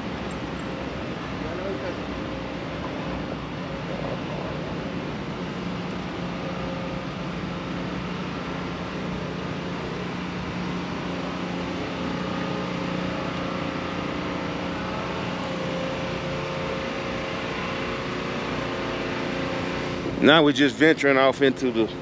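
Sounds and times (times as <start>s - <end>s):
city traffic hiss: 0.0s - 22.0s
motor running steadily: 0.0s - 22.0s.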